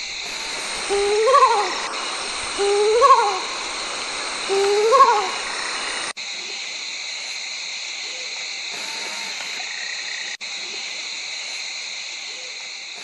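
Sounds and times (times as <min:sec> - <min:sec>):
night insect chorus: 0:00.0 - 0:13.0.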